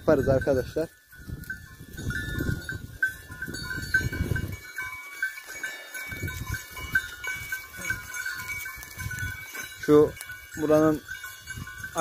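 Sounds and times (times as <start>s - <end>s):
sheep bells clinking: 0.0s - 12.0s.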